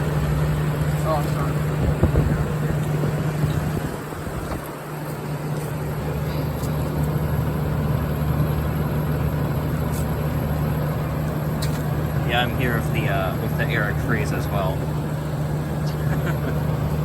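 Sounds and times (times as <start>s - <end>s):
air conditioner compressor hum: 0.0s - 17.0s
fan rushing: 0.0s - 17.0s.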